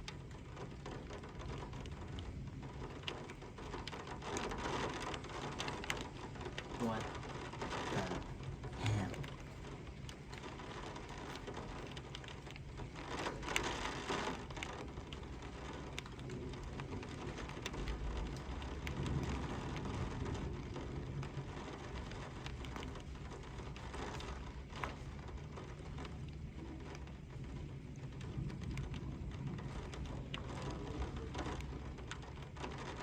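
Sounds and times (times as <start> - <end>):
rain pattering on a surface: 0.0 - 33.0.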